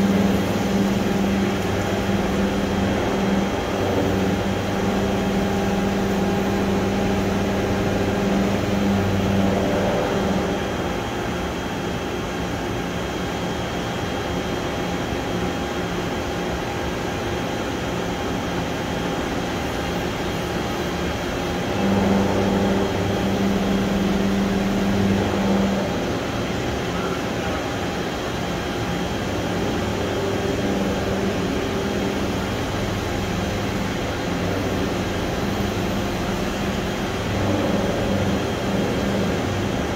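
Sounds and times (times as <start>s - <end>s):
boring mill humming: 0.0s - 12.4s, 17.3s - 39.9s.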